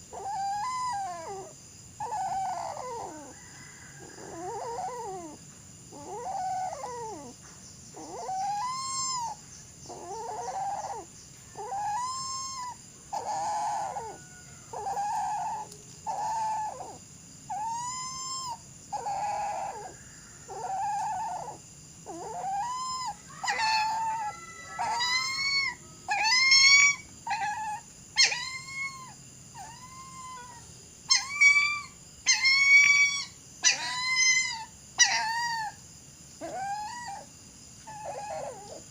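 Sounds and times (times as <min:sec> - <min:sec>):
dog crying: 0:00.1 - 0:03.3, 0:04.1 - 0:07.3, 0:08.0 - 0:19.9, 0:20.5 - 0:35.8, 0:36.4 - 0:37.3, 0:37.9 - 0:38.8.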